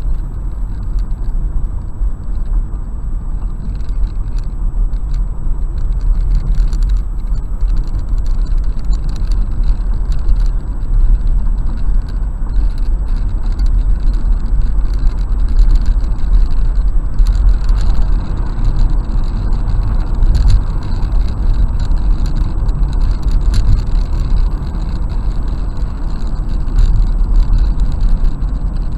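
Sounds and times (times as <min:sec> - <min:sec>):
car road and engine rumble: 0:00.0 - 0:28.9
rain ticking on windshield: 0:00.0 - 0:28.9.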